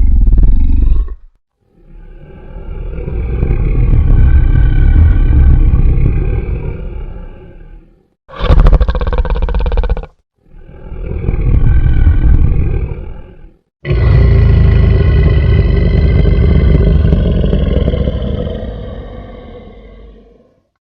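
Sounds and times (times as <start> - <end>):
growling monster roar: 1.8 - 20.7.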